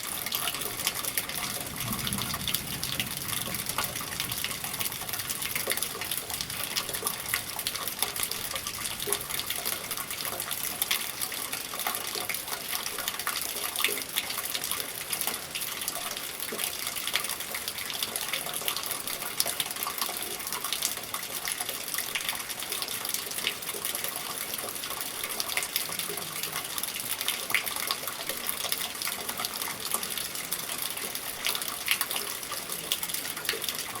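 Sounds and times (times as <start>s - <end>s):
steady rain: 0.0s - 34.0s
water drips ticking: 0.0s - 34.0s
water splashing from gutter: 0.0s - 34.0s.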